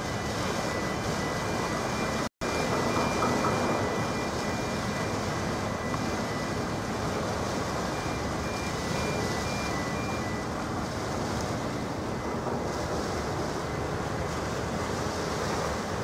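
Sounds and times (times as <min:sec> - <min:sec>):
water washing: 0:00.0 - 0:16.0.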